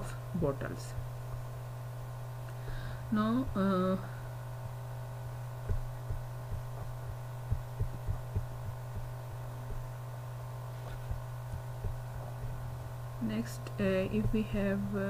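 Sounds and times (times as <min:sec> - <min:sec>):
low electrical hum: 0:00.0 - 0:15.0
soft low thumps: 0:00.0 - 0:15.0.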